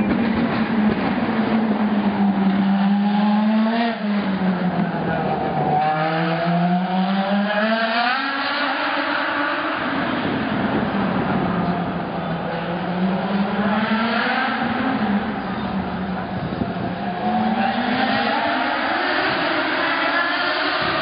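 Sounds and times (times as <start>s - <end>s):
race car engines accelerating: 0.0s - 21.0s.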